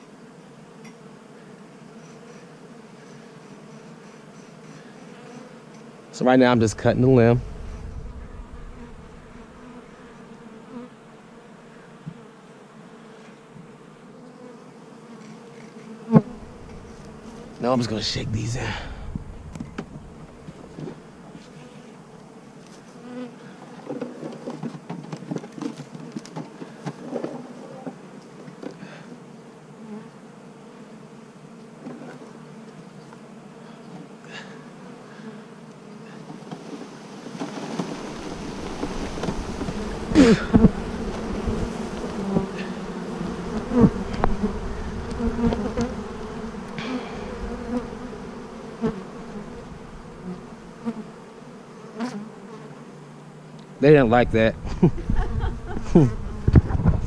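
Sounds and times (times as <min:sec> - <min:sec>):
bee swarm buzzing: 0:00.0 - 0:24.8, 0:25.5 - 0:57.0.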